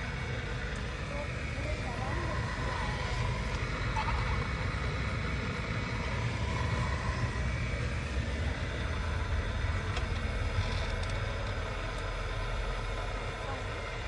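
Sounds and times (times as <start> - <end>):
low rumble: 0.0 - 14.0
model vehicle motor and gears: 0.0 - 14.0.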